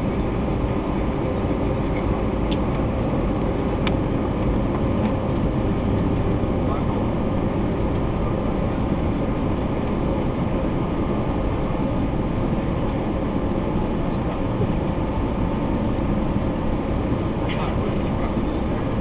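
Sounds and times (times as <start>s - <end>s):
jet engine hum: 0.0s - 19.0s.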